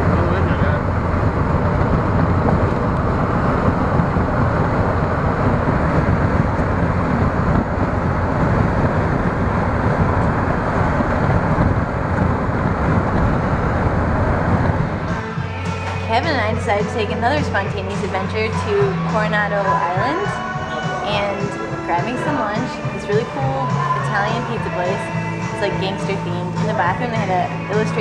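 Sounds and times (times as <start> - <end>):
car driving road noise: 0.0 - 28.0.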